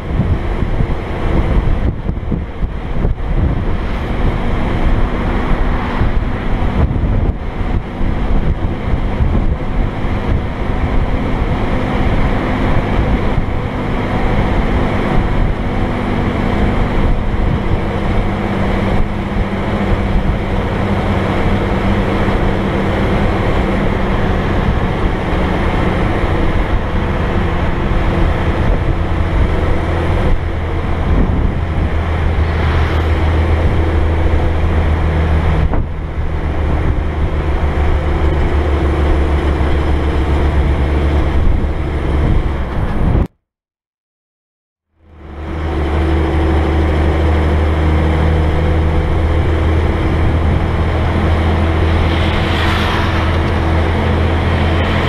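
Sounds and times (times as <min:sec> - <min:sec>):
deep hum: 0:00.0 - 0:43.3, 0:47.9 - 0:55.0
diesel engine droning: 0:00.0 - 0:43.3, 0:44.9 - 0:55.0
wind buffeting the microphone: 0:00.0 - 0:43.3, 0:45.4 - 0:55.0.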